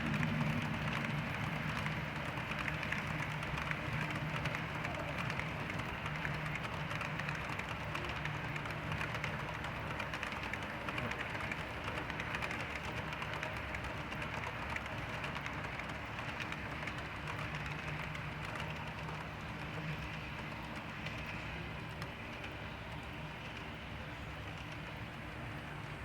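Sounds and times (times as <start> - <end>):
model train motor hum: 0.0 - 26.0
wheels rolling on rails: 0.0 - 26.0.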